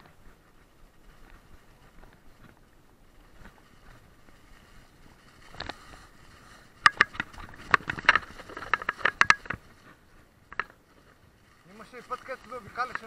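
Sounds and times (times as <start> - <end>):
bike rattling over bumps: 0.0 - 13.0.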